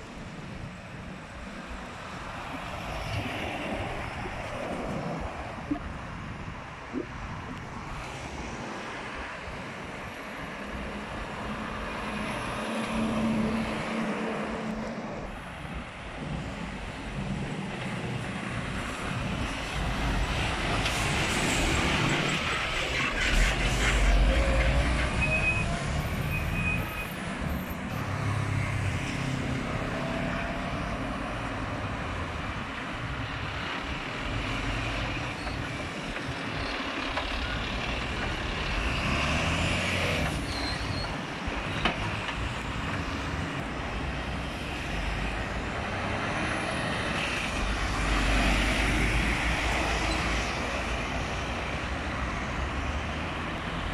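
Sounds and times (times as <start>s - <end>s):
tyres on the road: 0.0s - 53.9s
diesel lorries passing: 8.5s - 53.9s.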